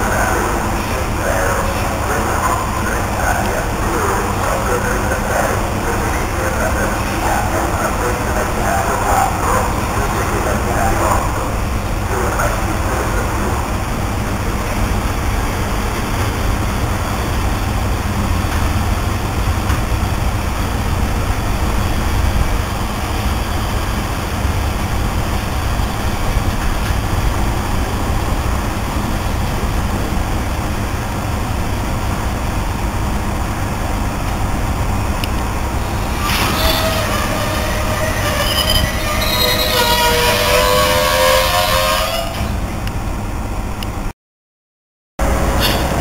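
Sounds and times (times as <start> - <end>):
freight train rumbling on rails: 0.0 - 44.1, 45.2 - 46.0.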